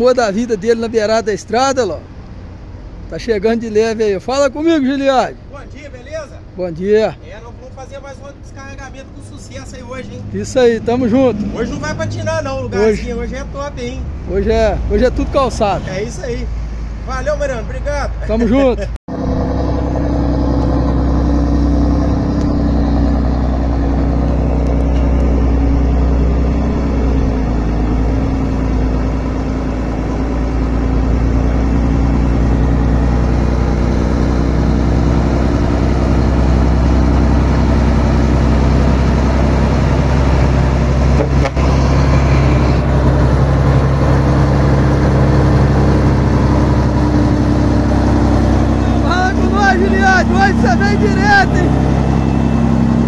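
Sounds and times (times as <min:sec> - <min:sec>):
heavy truck engine running: 0:05.0 - 0:17.4, 0:19.1 - 0:53.0.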